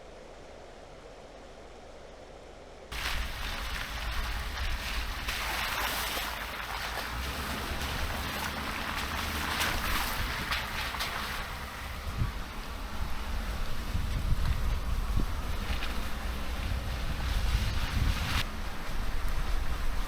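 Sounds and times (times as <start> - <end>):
truck engine rumble: 0.0 - 20.0
tyre noise on trail: 0.0 - 20.0.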